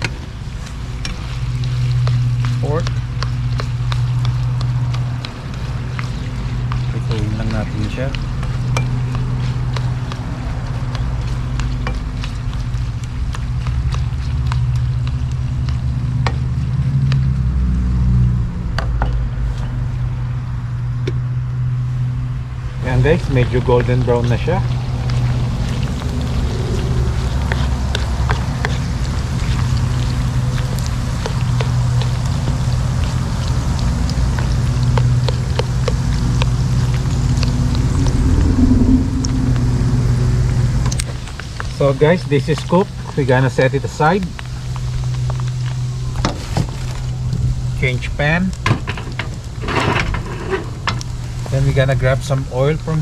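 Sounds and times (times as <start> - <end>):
meat sizzling in hot oil: 0.0 - 18.2, 22.0 - 38.6, 40.9 - 49.6
oil popping and crackling: 0.0 - 18.3, 21.3 - 53.0
steady low hum: 0.0 - 52.2.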